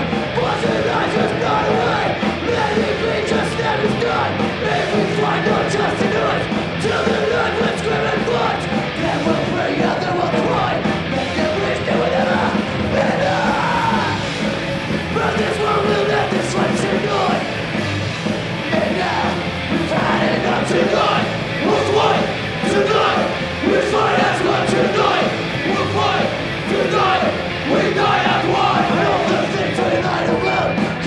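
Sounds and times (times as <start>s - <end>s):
shouted vocals: 0.0s - 14.4s, 15.1s - 17.7s, 18.6s - 31.0s
loud punk band music: 0.0s - 31.0s.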